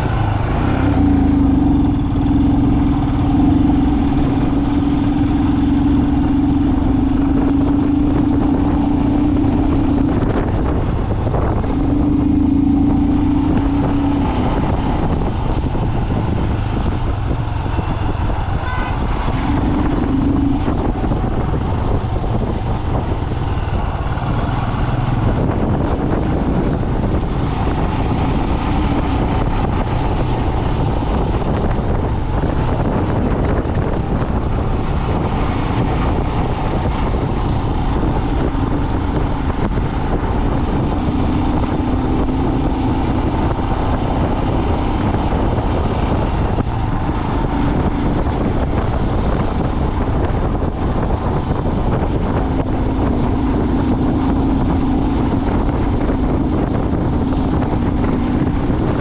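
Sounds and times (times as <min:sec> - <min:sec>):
road and wind noise: 0:00.0 - 0:59.0
vehicle engine drone: 0:00.0 - 0:59.0.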